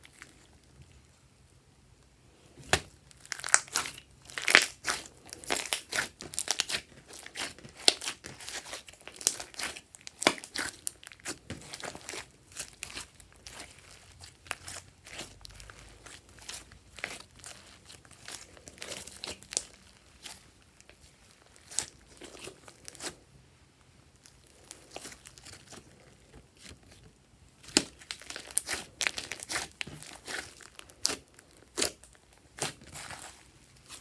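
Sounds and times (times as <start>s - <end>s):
slime crackling and popping: 2.6s - 23.2s, 24.1s - 34.0s.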